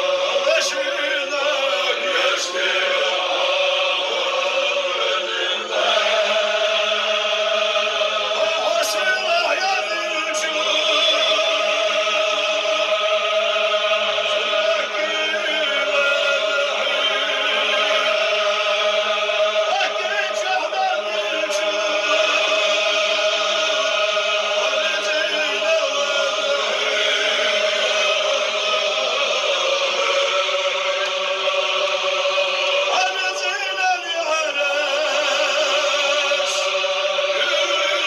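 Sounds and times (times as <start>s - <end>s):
men chanting in unison: 0.0s - 38.0s.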